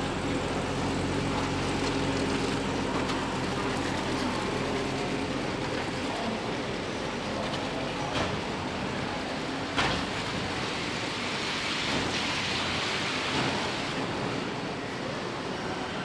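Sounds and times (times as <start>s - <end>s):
factory hall hiss: 0.0s - 16.0s.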